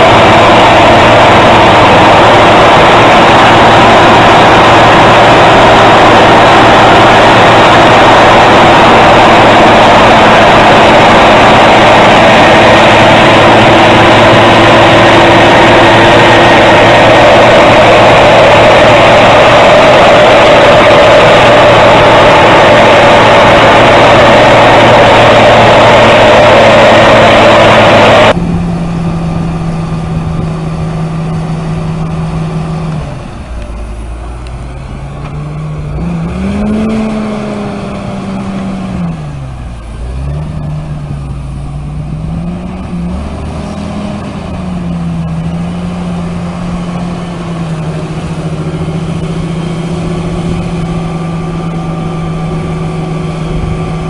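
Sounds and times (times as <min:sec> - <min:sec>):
loud rushing noise: 0:00.0 - 0:54.0
vehicle engine revving: 0:00.0 - 0:54.0.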